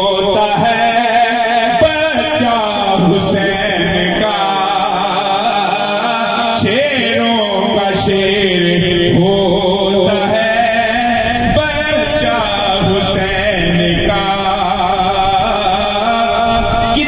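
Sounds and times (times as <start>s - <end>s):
man chanting into microphone: 0.0s - 17.0s.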